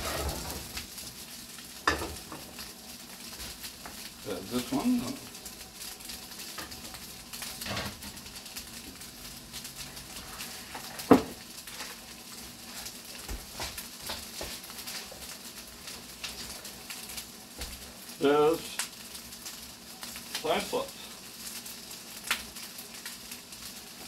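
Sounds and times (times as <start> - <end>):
green beans sizzling in oil: 0.0 - 24.0.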